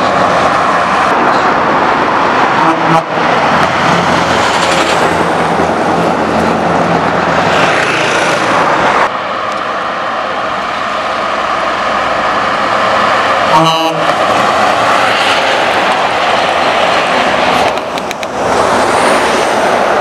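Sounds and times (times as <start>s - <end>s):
truck engine approaching: 0.0s - 20.0s
truck engine passing: 0.0s - 20.0s.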